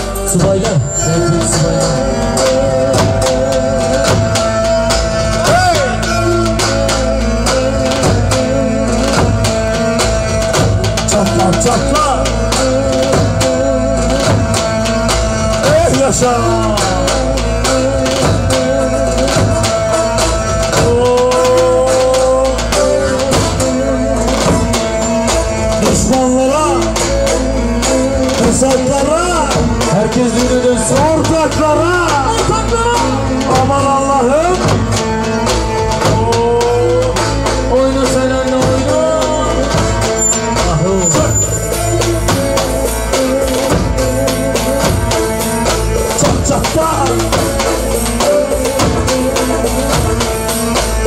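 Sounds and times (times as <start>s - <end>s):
dense drum beats: 0.0s - 51.0s
wavering dance melody: 0.0s - 51.0s.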